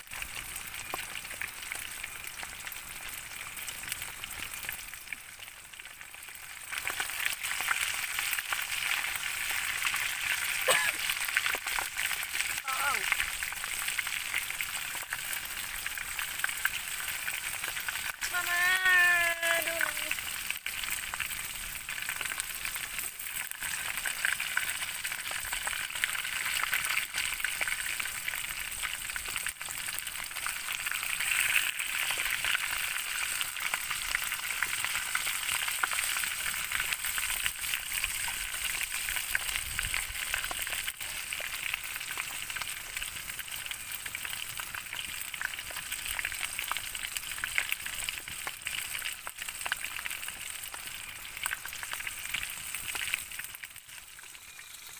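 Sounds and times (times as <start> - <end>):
chicken deep-frying in oil: 0.0 - 54.9.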